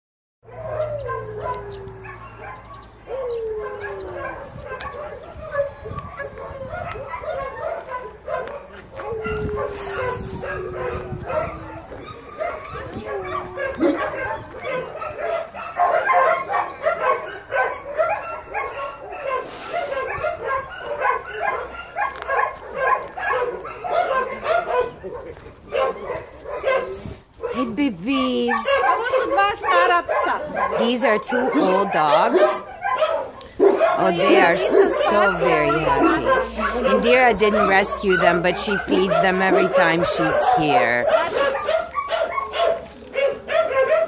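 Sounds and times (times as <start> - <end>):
dogs barking and yipping: 0.4 - 44.0
dog howling: 0.5 - 27.0, 28.3 - 44.0.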